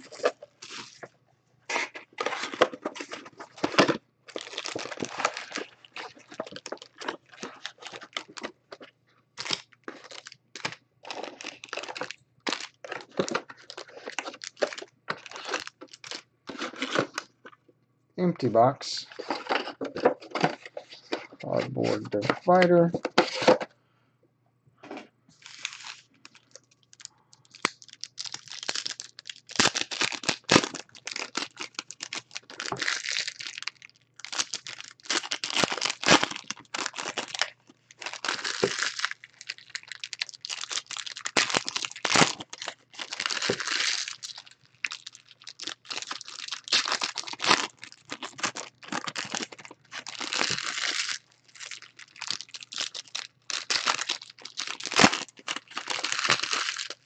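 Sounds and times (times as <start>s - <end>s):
foil wrappers ripping and crinkling: 1.7s - 8.8s, 9.4s - 17.3s, 25.4s - 57.0s.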